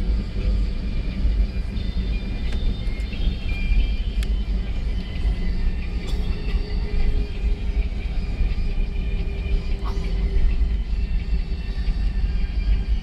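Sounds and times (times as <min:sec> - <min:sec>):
airplane cabin rumble: 0:00.0 - 0:13.0
jet engine high whine: 0:00.0 - 0:13.0.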